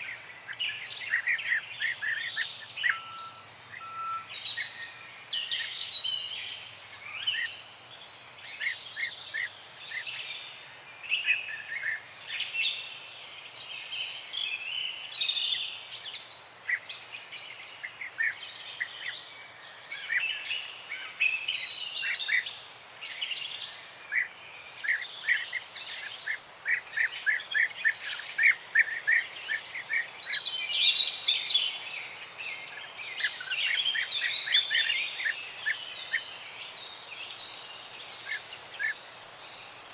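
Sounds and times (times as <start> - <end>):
faint outdoor hiss: 0.0 - 39.9
songbirds singing and chirping: 0.0 - 39.9.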